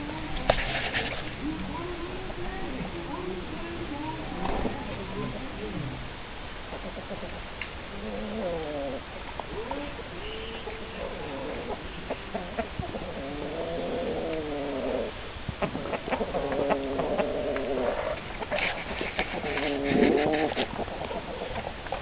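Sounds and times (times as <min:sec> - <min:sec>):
chickens making wavering calls: 0:00.0 - 0:22.0.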